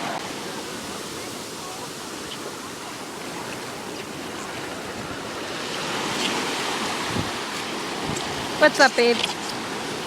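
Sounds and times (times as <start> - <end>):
ocean waves breaking: 0.0 - 10.0.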